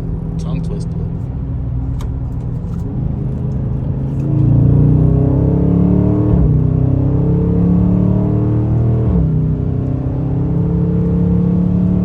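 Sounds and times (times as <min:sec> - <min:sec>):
car engine revving with upshifts: 0:00.0 - 0:12.0.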